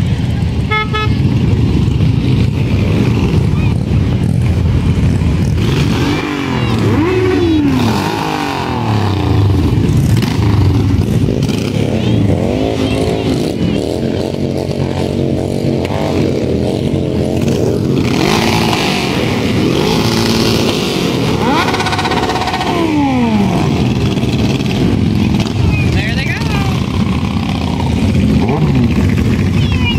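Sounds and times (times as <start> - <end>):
motorcycles riding past: 0.0 - 29.9.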